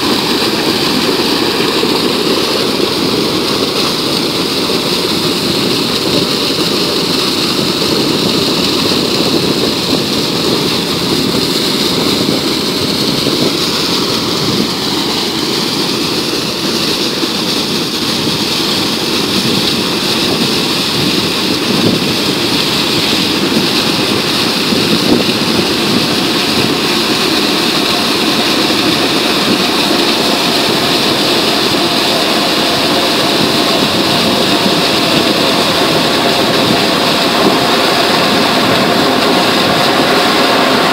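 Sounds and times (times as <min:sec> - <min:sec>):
water and air gushing from pipe: 0:00.0 - 0:40.9.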